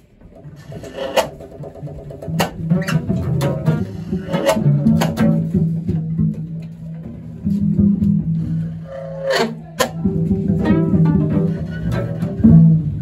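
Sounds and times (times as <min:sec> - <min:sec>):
contrabass bowed and plucked: 0:00.0 - 0:13.0
cello bowed and plucked: 0:00.2 - 0:13.0.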